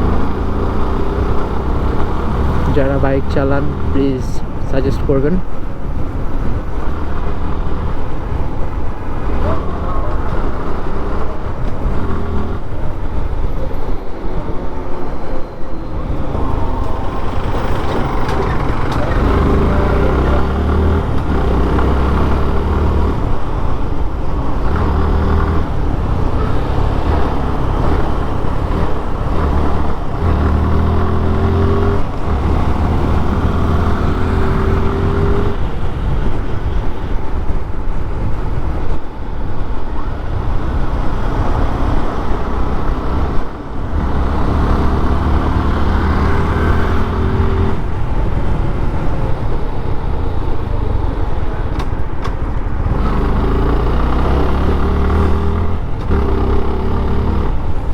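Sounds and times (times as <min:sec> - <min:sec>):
motorcycle engine accelerating: 0:00.0 - 0:05.2, 0:15.8 - 0:37.3, 0:38.0 - 0:57.9
wind and road noise: 0:00.0 - 0:57.9.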